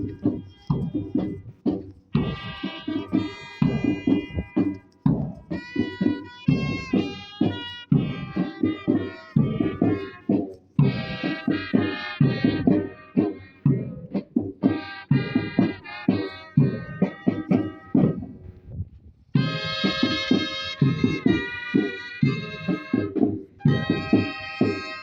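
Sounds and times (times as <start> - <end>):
quick drum beat: 0.0 - 18.6, 19.4 - 25.0.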